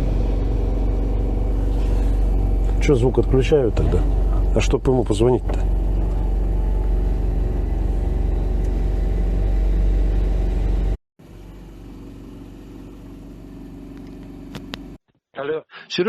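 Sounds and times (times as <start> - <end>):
off-road vehicle engine droning: 0.0 - 15.0.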